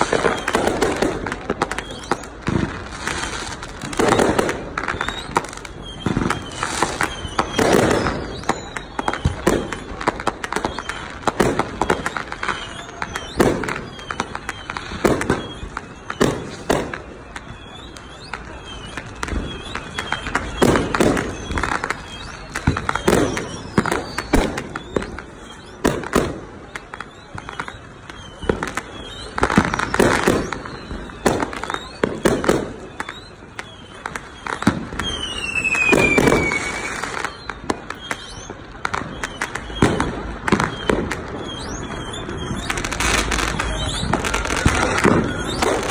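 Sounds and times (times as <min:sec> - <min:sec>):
falling firework whistles: 0:00.0 - 0:45.9
fireworks bangs and crackling: 0:00.0 - 0:45.9.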